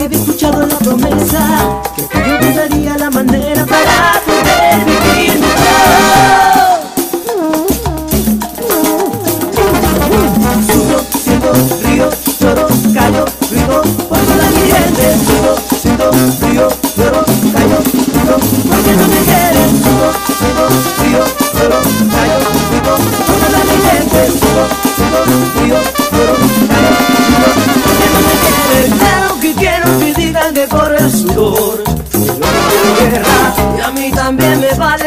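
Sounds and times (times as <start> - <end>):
brass band playing over a beat: 0.0 - 35.0.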